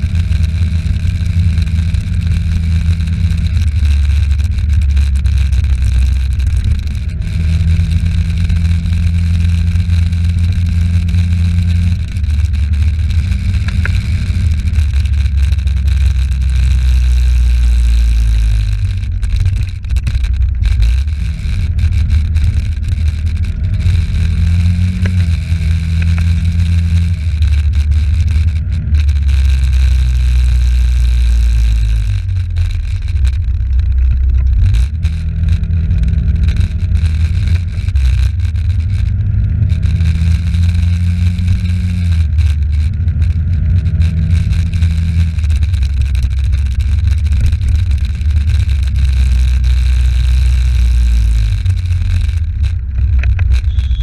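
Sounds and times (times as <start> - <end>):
scooter engine running: 0.0 - 54.0
wind rumble on microphone: 0.0 - 54.0.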